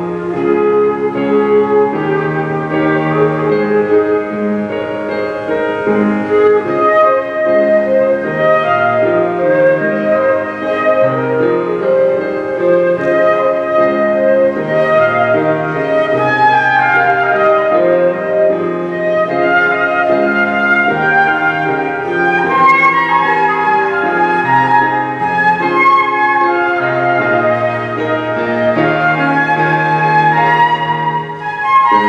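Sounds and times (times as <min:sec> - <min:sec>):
flute playing slow melody: 0:00.0 - 0:32.0
lower accompaniment: 0:00.0 - 0:32.0.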